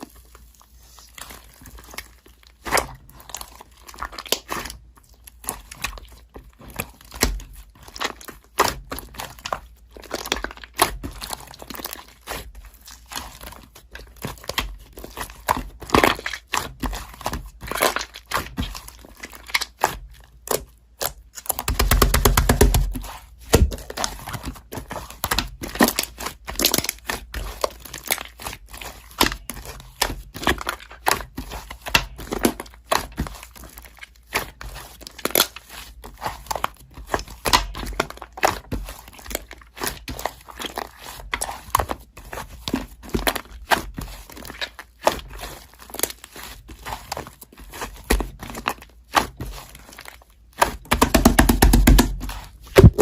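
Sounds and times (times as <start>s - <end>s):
slime squeezed clicking and crackling: 1.1s - 53.0s.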